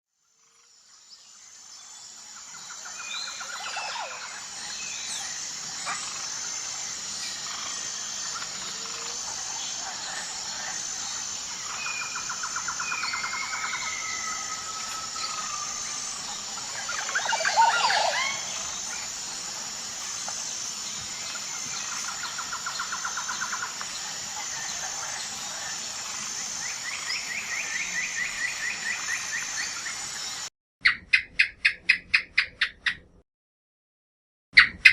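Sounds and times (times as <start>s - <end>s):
birds chirping and trilling: 1.3s - 33.0s
high-pitched buzz: 2.2s - 30.5s.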